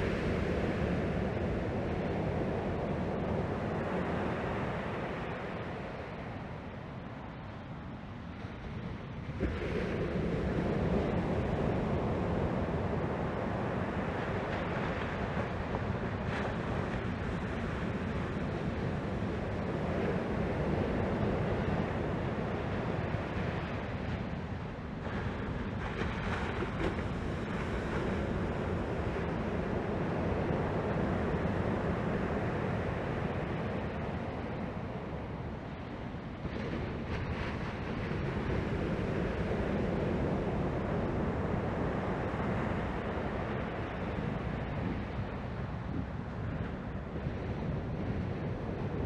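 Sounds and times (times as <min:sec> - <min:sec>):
surf breaking on a beach: 0:00.0 - 0:49.0
wind noise on microphone: 0:00.0 - 0:49.0.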